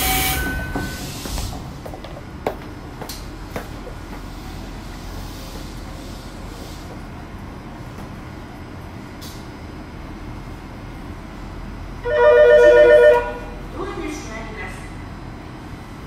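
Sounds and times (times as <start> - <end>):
subway train rumble and hum: 0.0 - 16.0.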